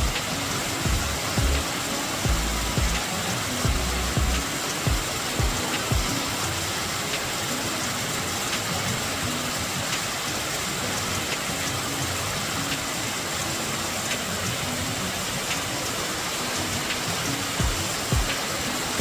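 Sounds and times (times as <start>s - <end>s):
waterfall pouring over rocks: 0.0s - 19.0s.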